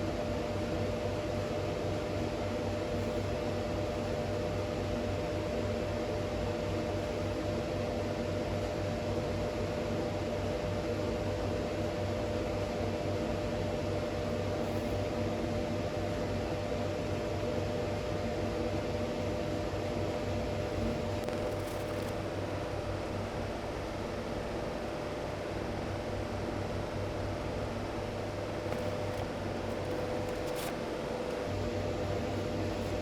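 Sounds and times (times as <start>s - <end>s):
workshop machine hum with whine: 0.0s - 33.0s.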